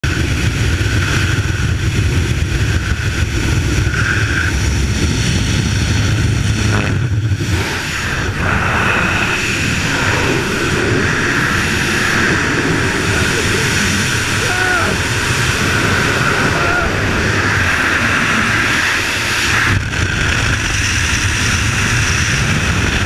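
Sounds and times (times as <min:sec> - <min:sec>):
plane engine and propeller drone: 0:00.0 - 0:23.0
wind rushing on microphone: 0:00.0 - 0:23.0.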